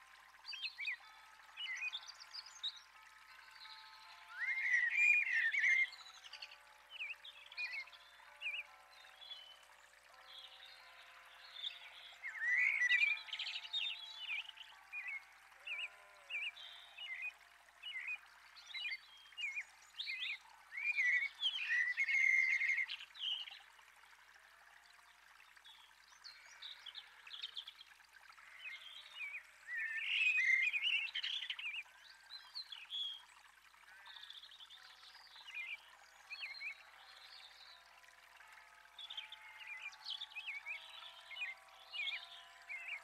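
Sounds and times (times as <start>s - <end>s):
songbirds chirping and twittering: 0.0s - 43.0s.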